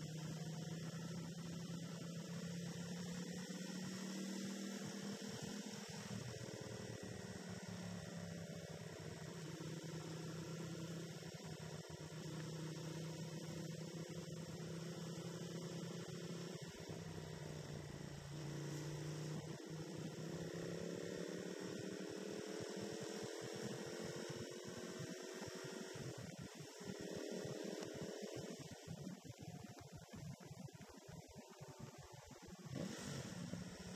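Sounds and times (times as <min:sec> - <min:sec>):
motorcycle engine droning: 0:00.0 - 0:33.9.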